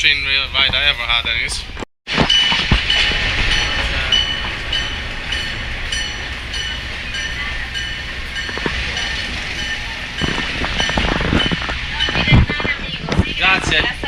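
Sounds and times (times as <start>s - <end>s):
train carriage rumbling: 0.0s - 14.0s.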